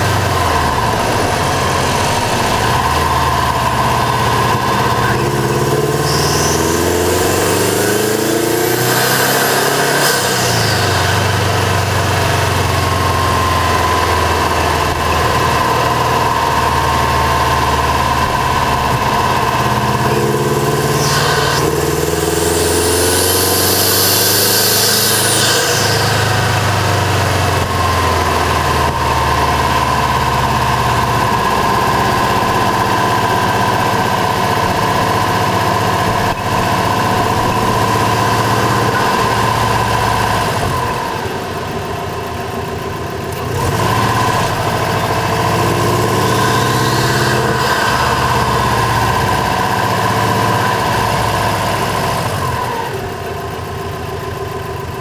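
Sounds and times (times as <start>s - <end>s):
car engine running close up: 0.0s - 55.0s
steady high turbo whine: 0.0s - 55.0s.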